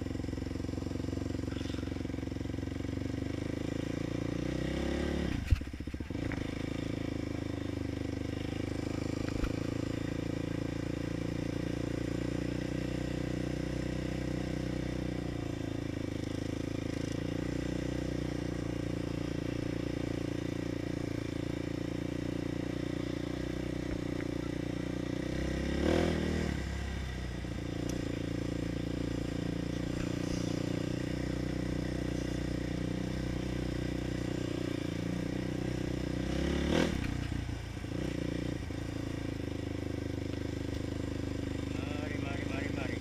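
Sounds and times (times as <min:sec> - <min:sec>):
quad engine running and revving: 0:00.0 - 0:43.0.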